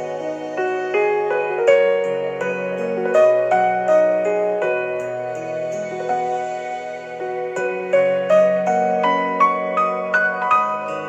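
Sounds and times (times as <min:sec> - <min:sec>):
solo piano piece: 0:00.0 - 0:11.0.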